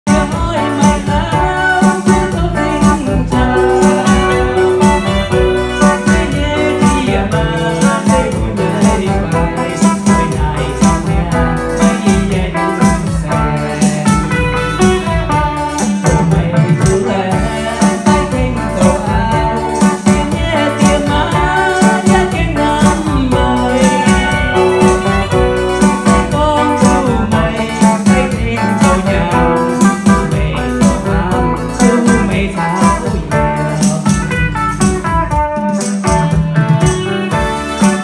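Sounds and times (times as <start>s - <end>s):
live dance band playing: 0.0s - 38.0s.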